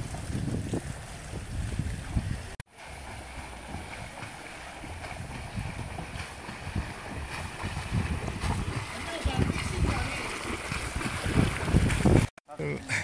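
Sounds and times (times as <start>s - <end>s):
wind rumble on microphone: 0.0s - 2.6s, 3.6s - 12.3s
swimmer splashing: 0.0s - 12.3s.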